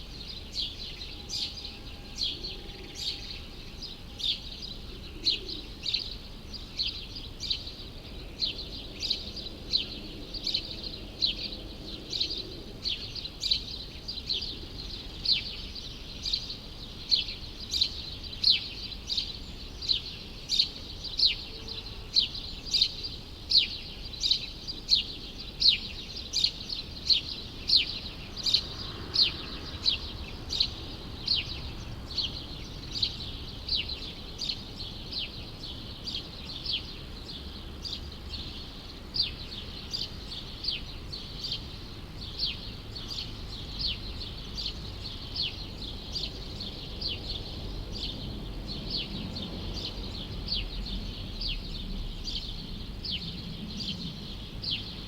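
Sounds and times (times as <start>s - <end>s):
faint city hum: 0.0s - 55.0s.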